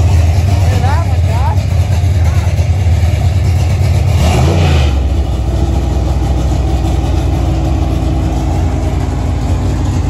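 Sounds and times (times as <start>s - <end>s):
deep engine idling: 0.0s - 10.0s.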